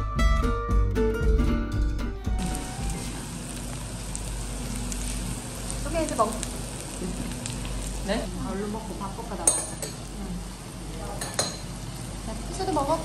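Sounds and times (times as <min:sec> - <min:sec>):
food sizzling on grill: 0:02.3 - 0:13.0.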